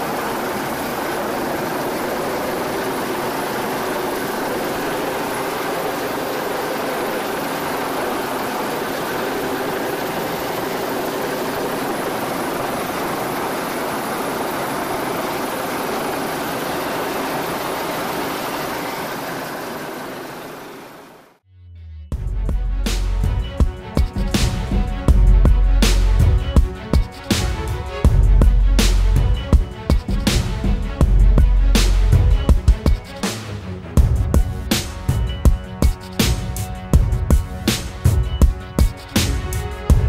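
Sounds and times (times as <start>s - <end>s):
helicopter hovering: 0.0s - 21.4s, 22.4s - 40.0s.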